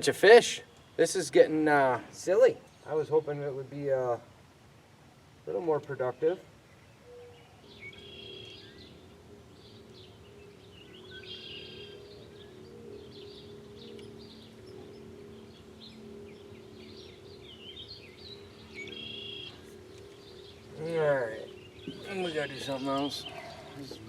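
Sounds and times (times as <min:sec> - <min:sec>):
songbirds chirping and trilling: 0:00.0 - 0:24.0
steady low hum: 0:00.0 - 0:24.0.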